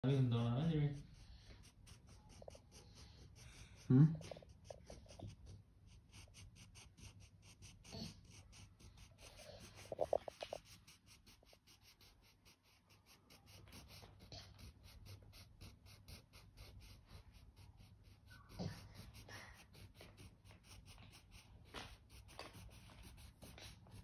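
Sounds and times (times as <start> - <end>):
crayon scratching on paper: 0.1 - 24.0.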